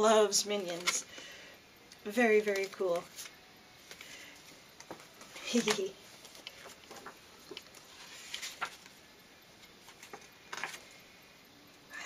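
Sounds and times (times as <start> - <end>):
paper cards rustling: 0.3 - 1.3, 2.0 - 11.0.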